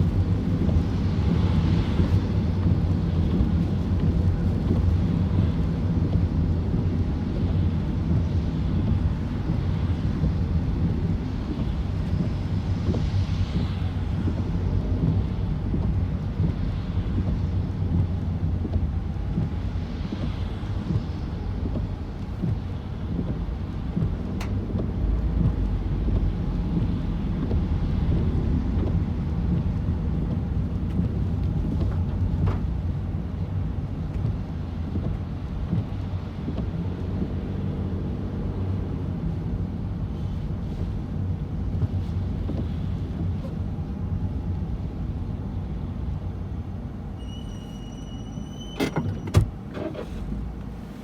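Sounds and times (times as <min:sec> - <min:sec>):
vehicle driving rumble: 0:00.0 - 0:51.0.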